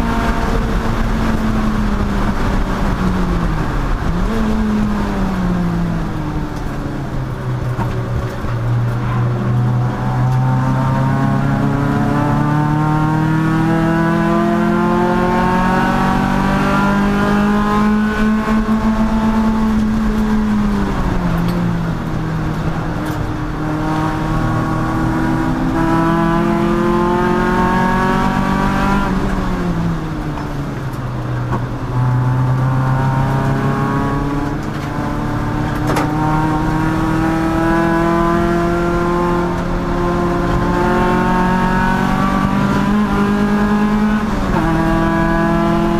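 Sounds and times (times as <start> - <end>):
race car engine revving: 0.0 - 45.9.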